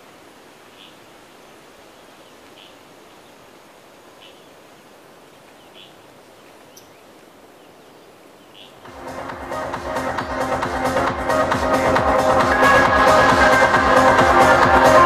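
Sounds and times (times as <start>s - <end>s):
forest hiss: 0.0s - 15.0s.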